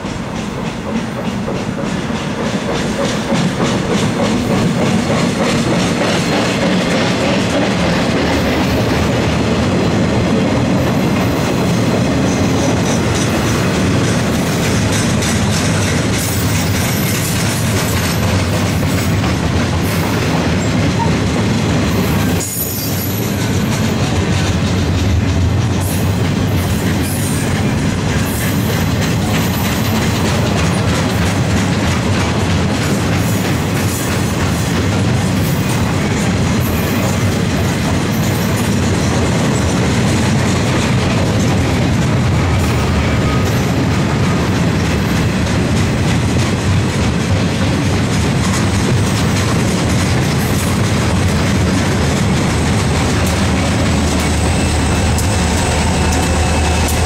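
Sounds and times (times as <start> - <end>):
clickety-clack over rail joints: 0.0 - 57.0
steel wheels rumbling: 0.0 - 57.0.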